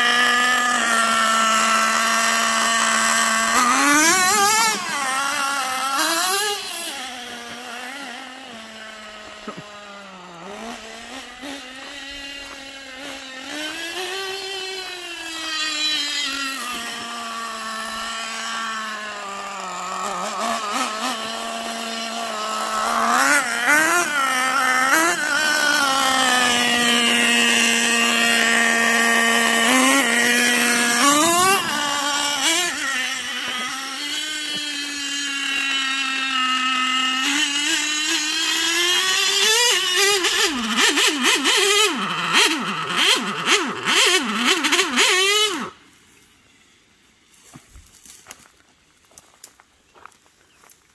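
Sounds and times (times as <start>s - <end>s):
small two-stroke engine revving: 0.0s - 48.2s.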